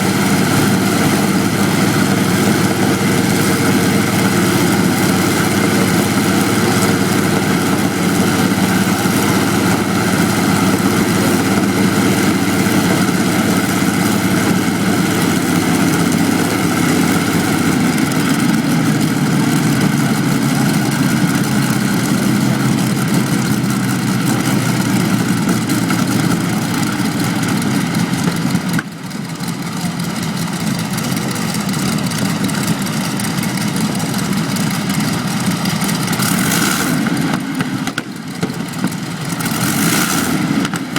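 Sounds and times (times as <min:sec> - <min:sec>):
aeroplane engines running: 0:00.0 - 0:40.9.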